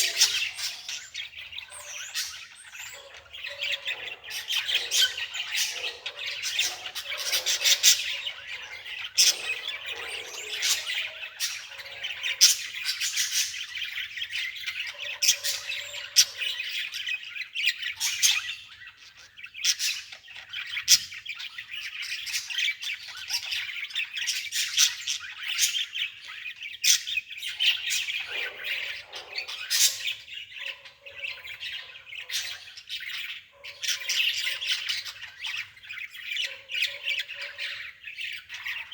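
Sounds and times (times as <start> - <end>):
birds chirping and squawking: 0.0 - 38.9.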